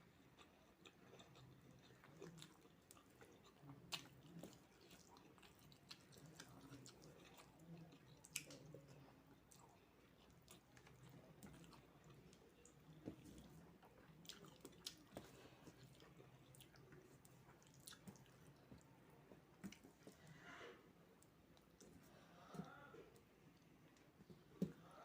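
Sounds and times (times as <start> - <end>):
person chewing food: 0.0 - 20.3.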